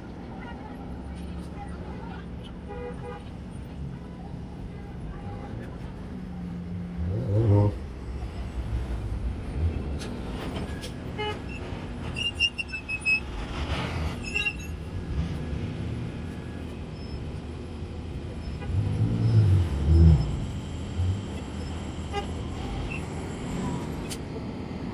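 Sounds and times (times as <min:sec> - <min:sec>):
bus engine: 0:00.0 - 0:24.9
traffic rumble: 0:00.0 - 0:24.9.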